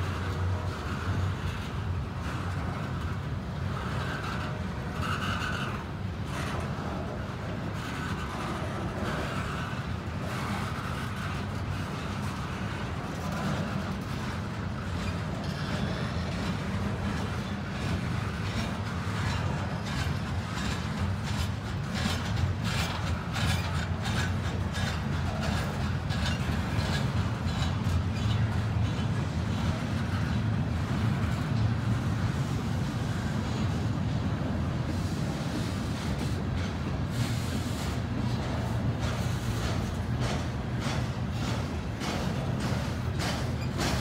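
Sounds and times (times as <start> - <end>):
train wheels rumbling on rail: 0.0 - 44.0
wheels clicking over rail joints: 0.0 - 44.0.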